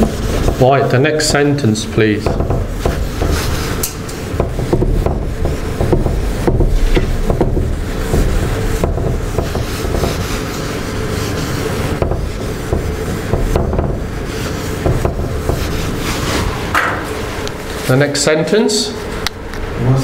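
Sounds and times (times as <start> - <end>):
eraser rubbing on whiteboard: 0.0 - 16.7.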